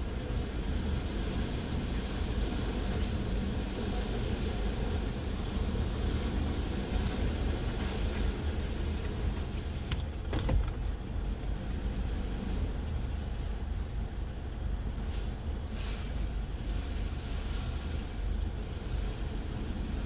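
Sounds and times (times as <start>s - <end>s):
car wash brushes rumbling: 0.0s - 20.0s.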